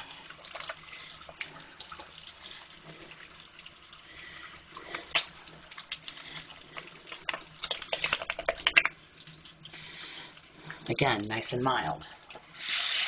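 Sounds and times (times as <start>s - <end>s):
hands lathering soap: 0.0s - 10.5s
running tap water: 0.0s - 13.0s
water splashes: 0.0s - 13.0s.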